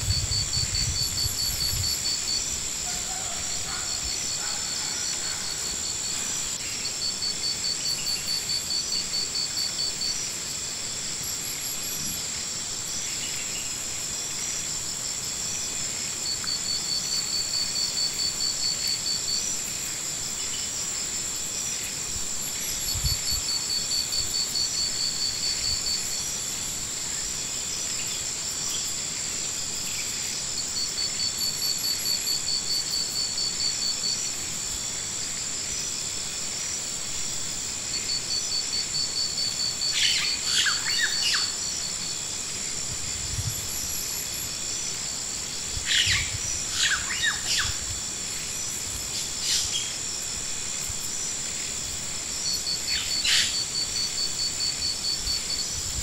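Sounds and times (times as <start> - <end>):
insect chorus drone: 0.0 - 56.0
pulsing insect call: 0.0 - 56.0.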